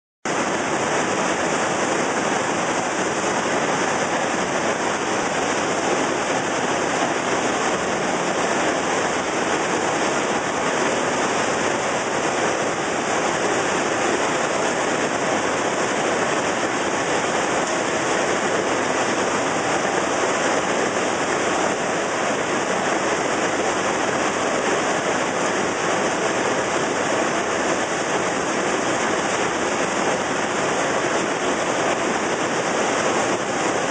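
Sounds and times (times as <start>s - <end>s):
snack extrusion machine running: 0.3s - 33.9s.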